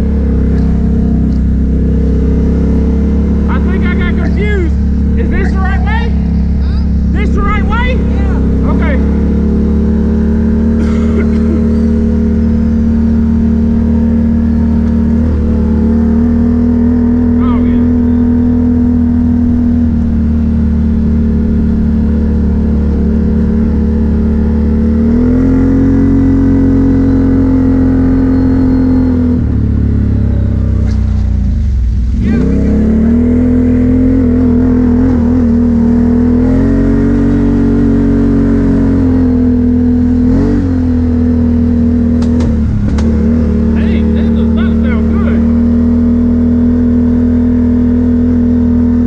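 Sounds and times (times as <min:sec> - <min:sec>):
atv engine running: 0:00.0 - 0:49.0.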